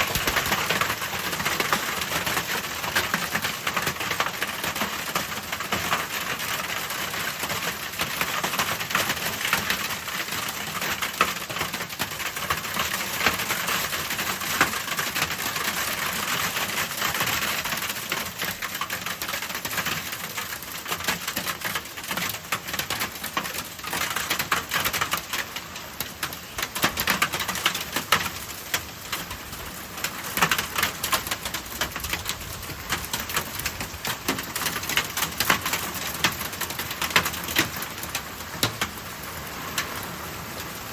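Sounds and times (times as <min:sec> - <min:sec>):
hailstones clattering: 0:00.0 - 0:39.0.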